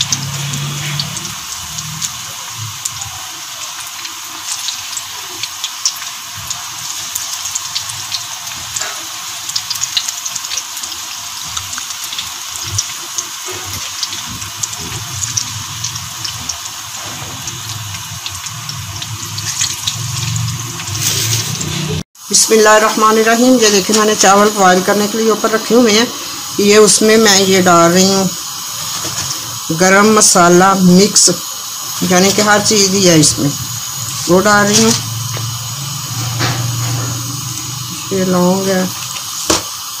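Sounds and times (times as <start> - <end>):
oil popping and crackling: 0.0 - 22.0, 23.0 - 40.0
deep-frying sizzle: 0.0 - 40.0.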